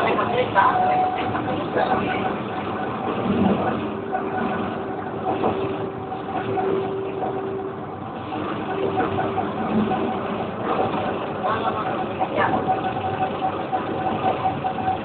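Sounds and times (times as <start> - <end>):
faint motor hum: 0.0 - 15.0
tram wheels rumbling on rails: 0.0 - 15.0.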